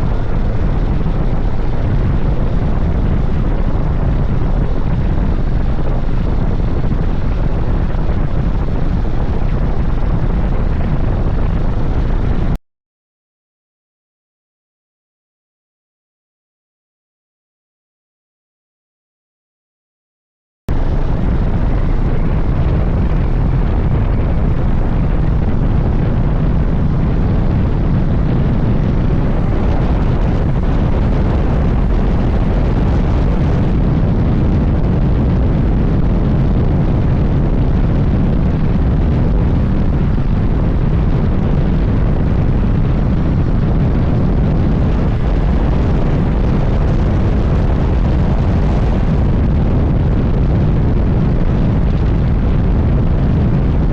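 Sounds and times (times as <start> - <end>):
wind rush on microphone: 0.0 - 12.6, 20.7 - 53.9.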